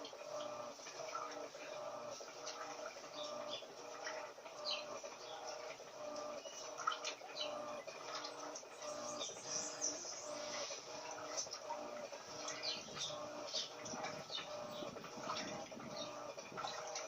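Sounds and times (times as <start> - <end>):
washing machine motor hum pulses: 0.0 - 17.0.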